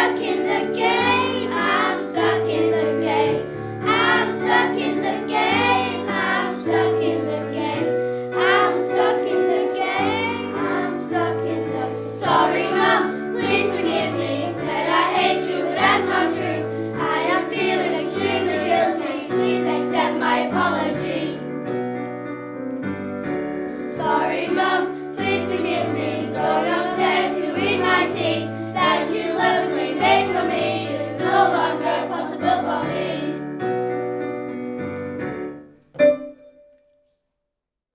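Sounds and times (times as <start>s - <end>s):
children's choir singing: 0.0s - 21.5s, 23.8s - 33.4s
instrumental accompaniment: 0.0s - 37.0s.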